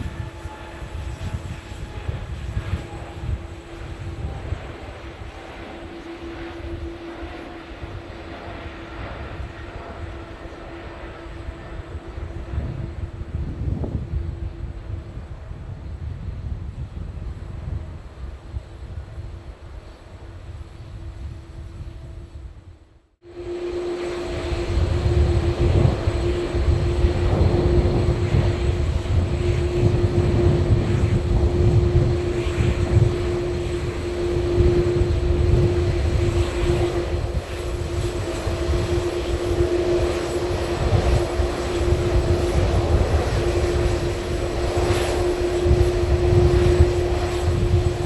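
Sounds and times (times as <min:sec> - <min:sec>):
airliner engines rumbling: 0:00.0 - 0:48.0.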